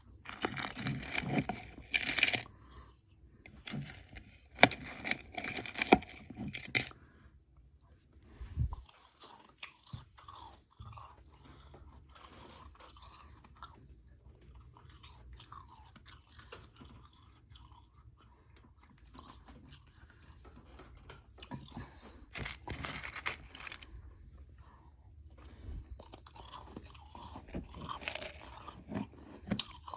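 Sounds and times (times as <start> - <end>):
chewing crunchy ice: 0.0 - 7.0, 8.8 - 24.3, 25.4 - 29.9.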